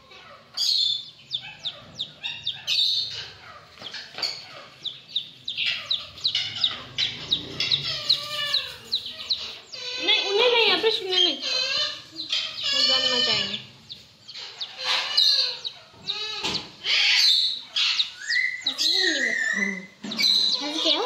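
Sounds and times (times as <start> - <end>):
chick peeping: 0.0 - 21.0.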